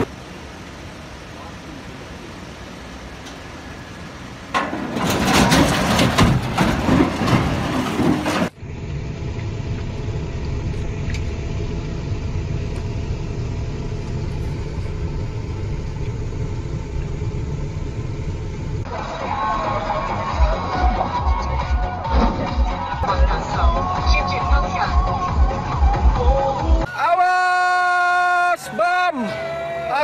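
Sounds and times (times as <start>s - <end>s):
vehicle engine rumbling: 0.0s - 26.9s.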